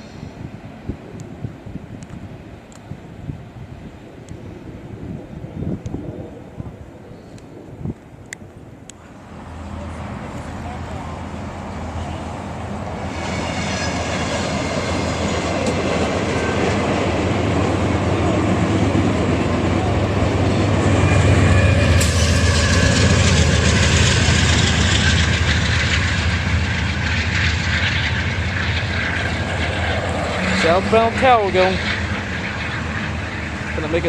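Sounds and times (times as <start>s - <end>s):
train rumbling past: 0.0s - 8.0s, 9.0s - 34.0s.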